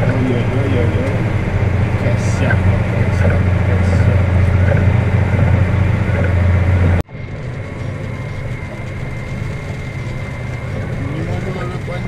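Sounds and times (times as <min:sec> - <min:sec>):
faint steady whine: 0:00.0 - 0:12.0
tractor diesel engine droning: 0:00.0 - 0:12.0.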